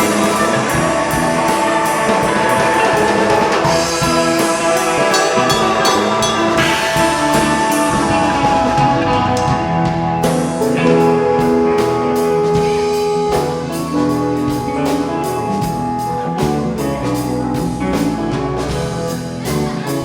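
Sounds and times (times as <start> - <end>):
drum kit beat: 0.0 - 20.0
sustained electric guitar notes: 0.0 - 20.0.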